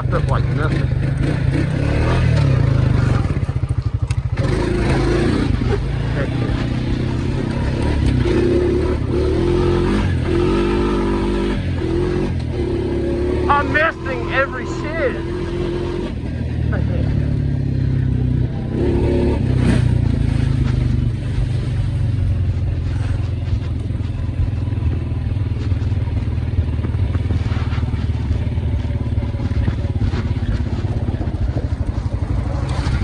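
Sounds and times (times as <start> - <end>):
atv engine rumbling: 0.0 - 33.0.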